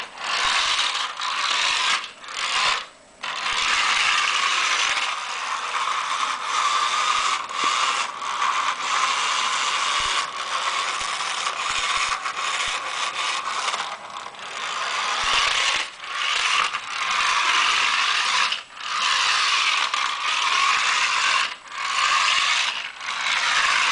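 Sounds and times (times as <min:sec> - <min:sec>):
toy car motor and gears whirring: 0:00.0 - 0:23.9.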